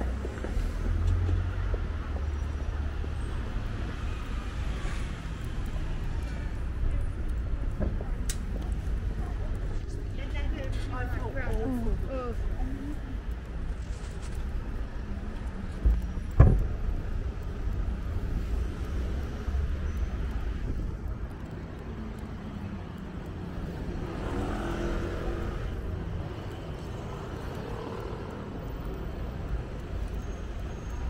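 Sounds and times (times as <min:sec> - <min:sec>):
cars driving by: 0:00.0 - 0:31.0.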